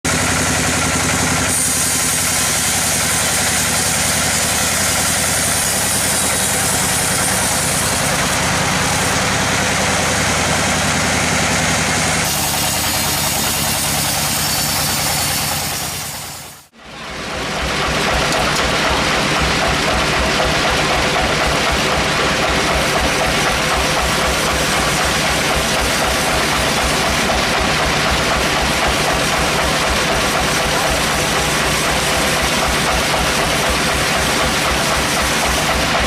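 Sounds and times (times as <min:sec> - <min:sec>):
dense mechanical noise: 0:00.0 - 0:36.0
sawmill engine drone: 0:00.0 - 0:36.0.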